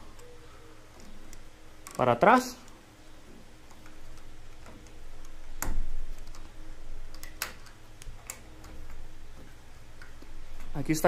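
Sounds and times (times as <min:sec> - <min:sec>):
wires clicking and knocking: 0:00.9 - 0:10.9.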